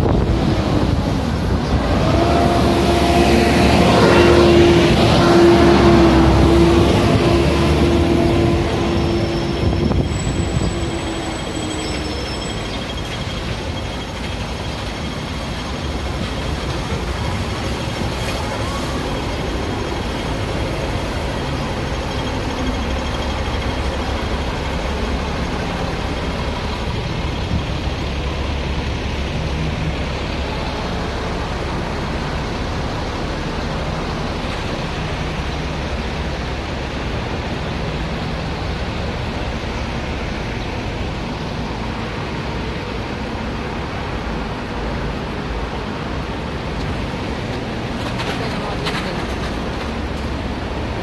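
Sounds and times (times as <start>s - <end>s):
buses running close by: 0.0s - 51.0s
street traffic rumble: 0.0s - 51.0s.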